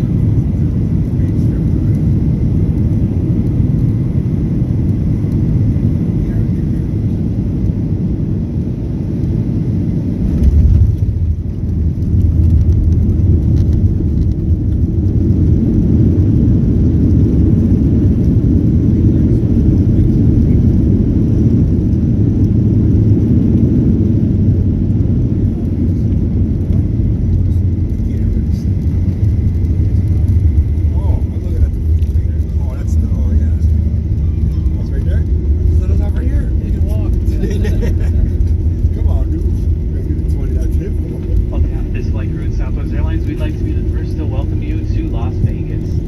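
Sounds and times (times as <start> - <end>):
aircraft cabin low rumble: 0.0 - 46.0.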